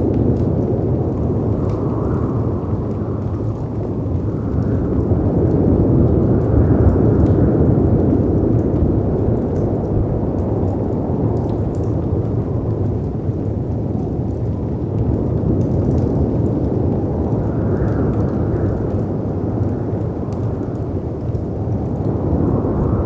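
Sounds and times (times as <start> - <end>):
faint fireplace crackles: 0.0 - 23.0
wind: 0.0 - 23.0.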